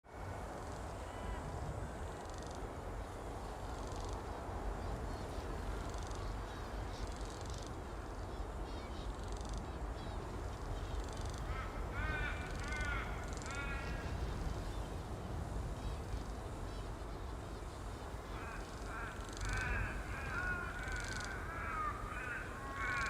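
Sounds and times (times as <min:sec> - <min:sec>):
low wind noise: 0:00.0 - 0:23.0
faint bird calls: 0:00.5 - 0:23.0.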